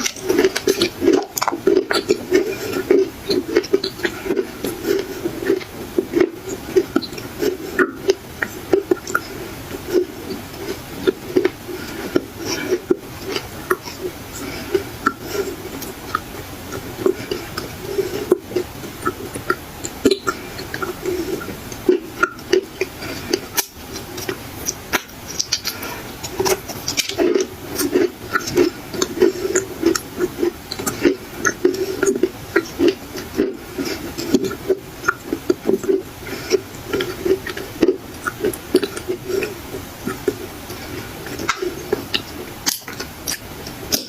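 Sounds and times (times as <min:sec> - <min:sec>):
dry clay being chewed: 0:00.0 - 0:44.0.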